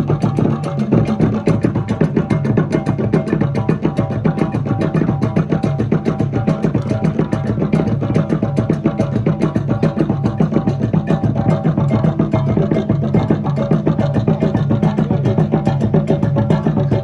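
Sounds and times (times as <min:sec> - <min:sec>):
music with fast beat: 0:00.0 - 0:17.0.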